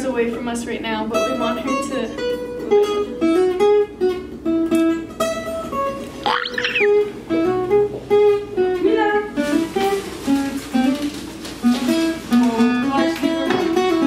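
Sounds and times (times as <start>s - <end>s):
plucked acoustic guitar melody: 0.2s - 14.0s.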